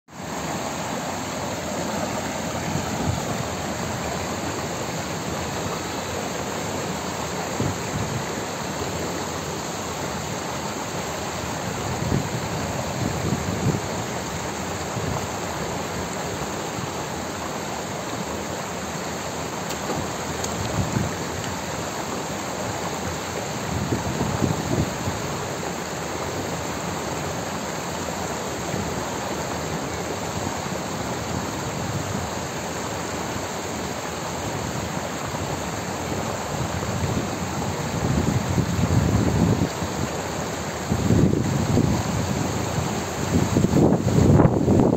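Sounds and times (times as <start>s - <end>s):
water rushing down cascade: 0.1s - 44.9s.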